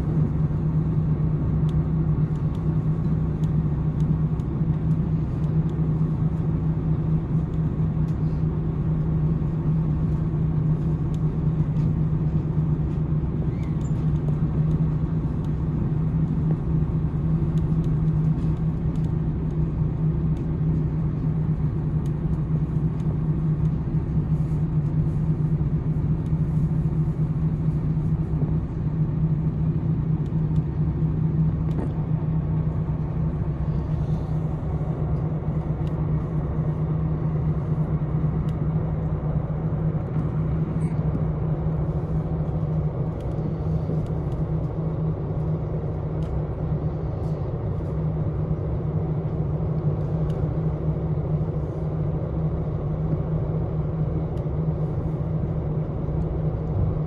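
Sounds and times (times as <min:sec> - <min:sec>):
diesel railcar engine drone: 0:00.0 - 0:57.0
wheels rumbling on rails: 0:00.0 - 0:57.0.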